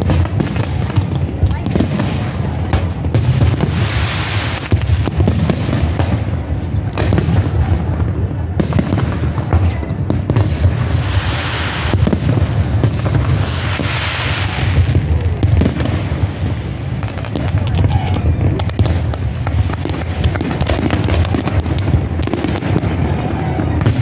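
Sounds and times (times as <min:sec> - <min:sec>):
firework bursts and booms: 0:00.0 - 0:24.0
fireworks crackling: 0:00.0 - 0:24.0.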